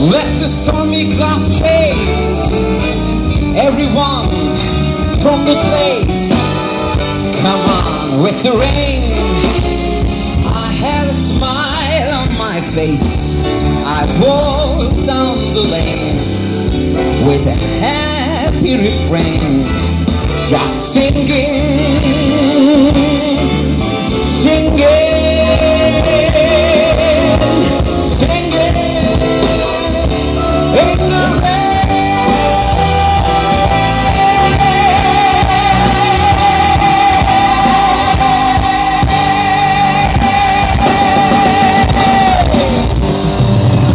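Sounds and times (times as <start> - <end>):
man singing: 0.0 - 43.9
rock band playing: 0.0 - 43.9.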